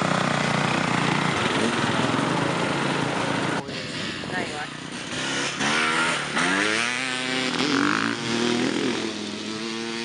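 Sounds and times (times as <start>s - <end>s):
dirt bike engine accelerating: 0.0s - 10.0s.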